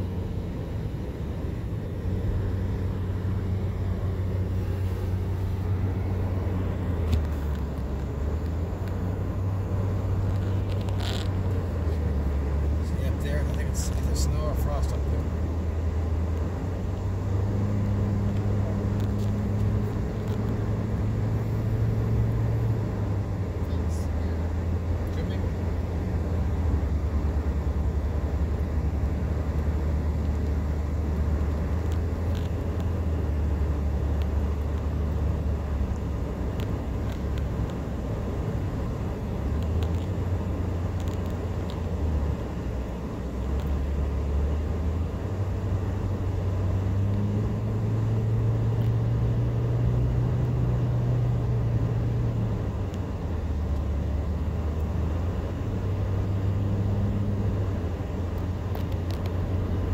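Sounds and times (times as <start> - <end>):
car engine drone: 0.0 - 59.9.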